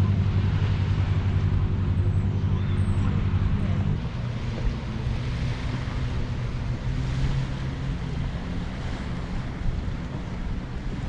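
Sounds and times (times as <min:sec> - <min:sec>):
small waves on beach: 0:00.0 - 0:11.0.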